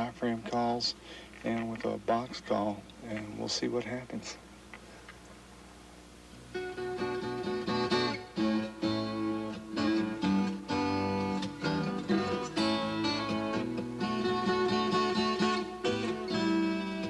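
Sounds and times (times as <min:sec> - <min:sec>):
acoustic guitar music: 0:00.0 - 0:04.0, 0:06.3 - 0:17.0.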